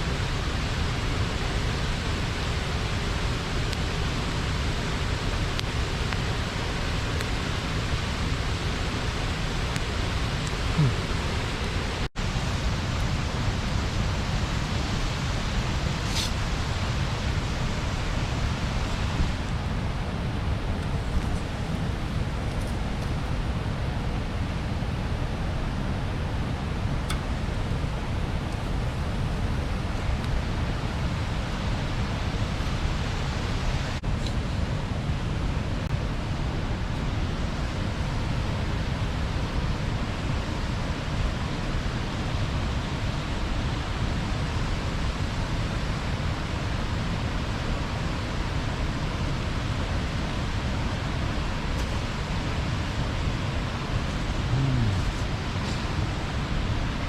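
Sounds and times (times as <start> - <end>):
river water pouring over weir: 0.0 - 57.0.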